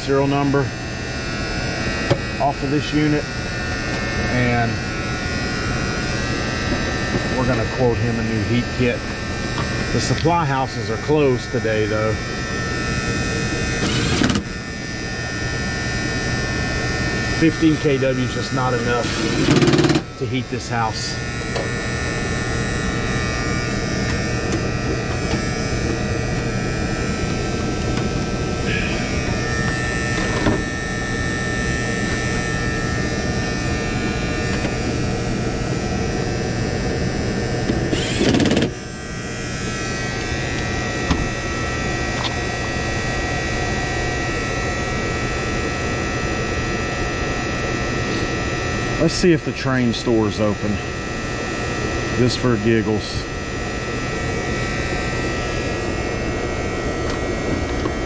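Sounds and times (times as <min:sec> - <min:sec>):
air handler electrical hum: 0:00.0 - 0:58.0
contactor buzzing: 0:00.0 - 0:58.0.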